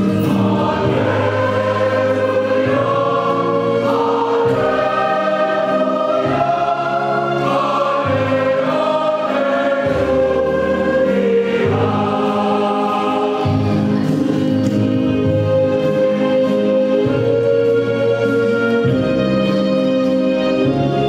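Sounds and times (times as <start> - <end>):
choir singing chords: 0.0 - 21.0.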